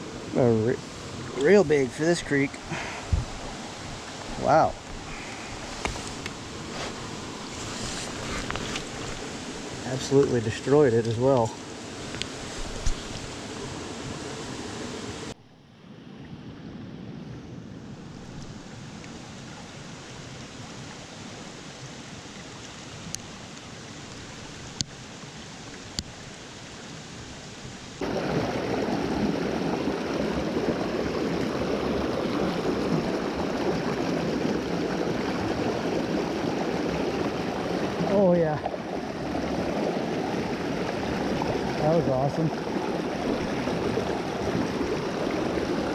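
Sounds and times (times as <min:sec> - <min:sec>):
creek water running: 0:00.0 - 0:15.4, 0:18.0 - 0:45.9.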